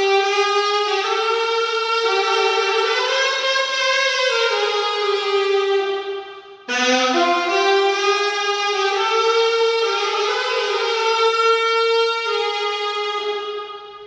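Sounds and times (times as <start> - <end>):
alto saxophone playing: 0.0 - 14.0.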